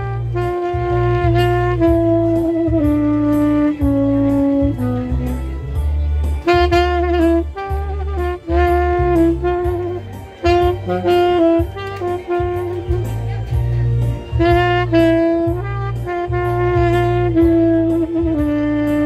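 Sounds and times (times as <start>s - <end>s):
even beat: 0.0s - 19.0s
saxophone playing slow melody: 0.0s - 19.0s
steady bass line: 0.0s - 19.0s.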